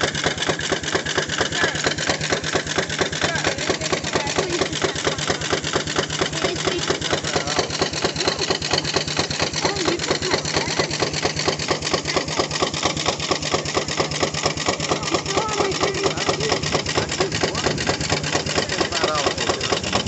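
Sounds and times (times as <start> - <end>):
steady hum: 0.0 - 20.0
steam engine running: 0.0 - 20.0.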